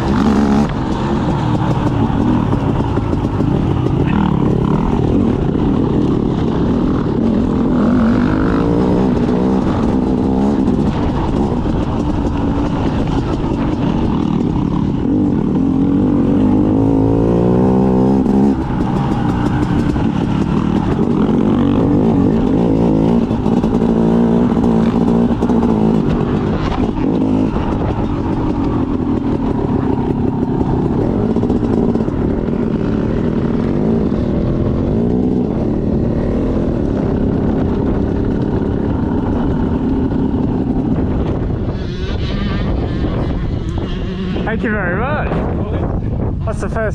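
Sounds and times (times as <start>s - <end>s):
motorbike engine revving: 0.0s - 46.4s.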